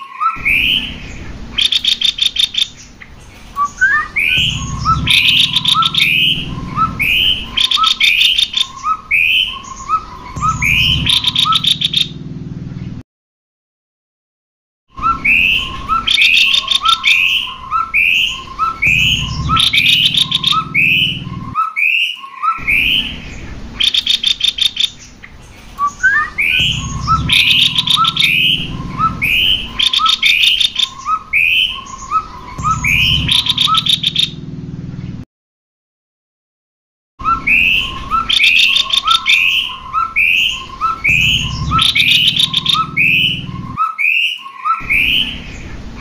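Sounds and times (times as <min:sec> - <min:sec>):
birds calling rapidly: 0:00.0 - 0:13.0, 0:14.9 - 0:35.2, 0:37.2 - 0:46.0.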